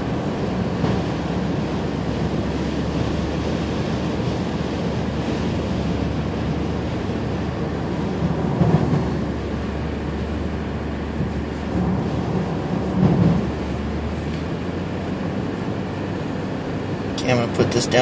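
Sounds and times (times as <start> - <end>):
low rumble of tyres and engine: 0.0 - 18.0.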